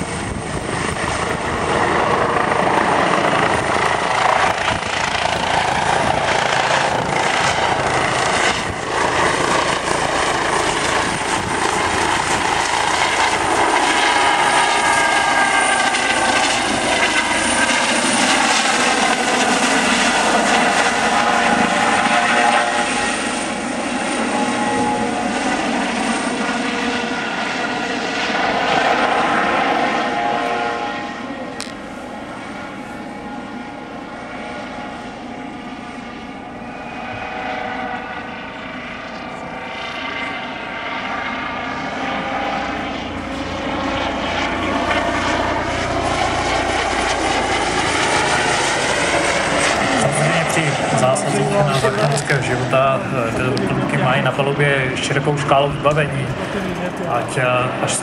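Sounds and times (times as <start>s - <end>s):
helicopter flying low overhead: 0.0s - 58.0s.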